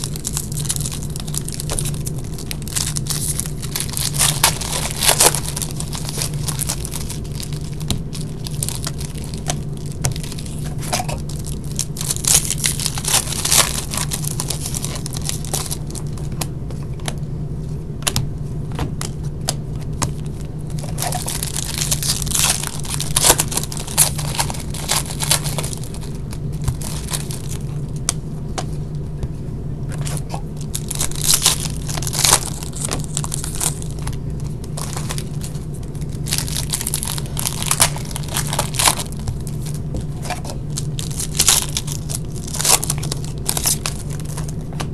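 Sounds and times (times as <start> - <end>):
foil wrappers tearing and crinkling: 0.0 - 16.4, 20.0 - 28.2, 30.0 - 44.9
low hum: 0.0 - 44.9.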